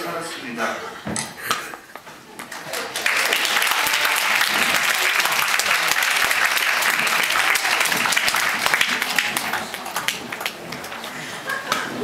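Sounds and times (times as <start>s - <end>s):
audience applause: 2.4s - 12.0s.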